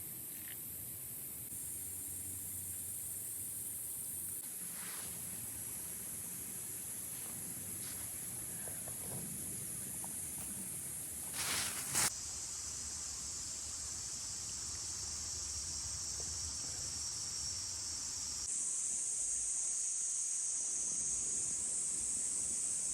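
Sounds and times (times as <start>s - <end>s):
high-pitched hiss: 0.0s - 22.9s.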